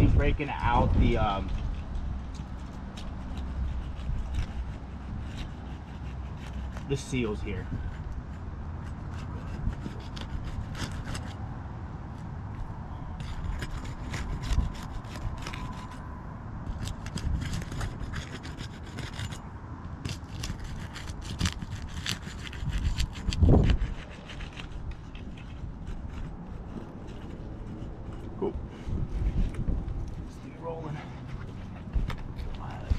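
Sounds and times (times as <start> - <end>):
tool scraping shingles: 0.6 - 11.4, 13.2 - 16.0, 16.6 - 32.9.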